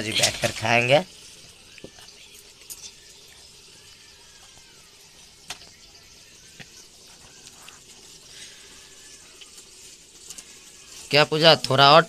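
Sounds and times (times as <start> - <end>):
pot simmering hiss: 0.0 - 12.0.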